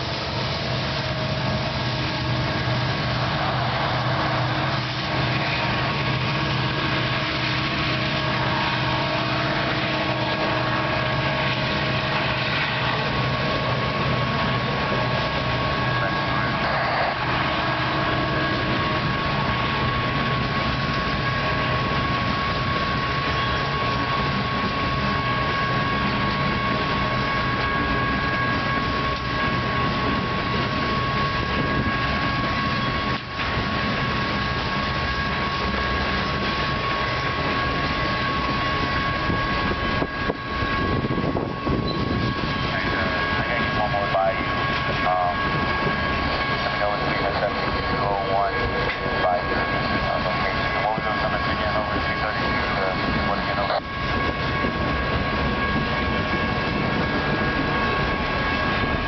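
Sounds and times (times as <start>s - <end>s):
diesel locomotives passing: 0.0s - 59.0s
steady high-pitched tone: 0.0s - 59.0s.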